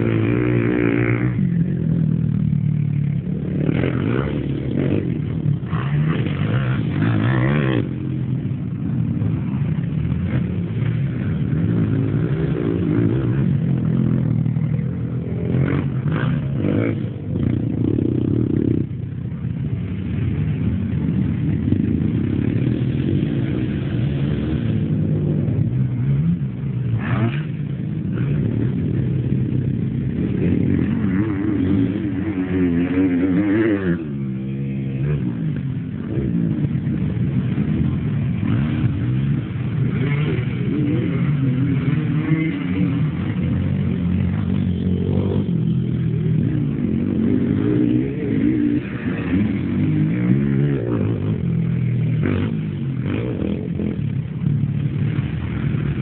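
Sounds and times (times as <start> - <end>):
quad engines revving: 0.0 - 56.0.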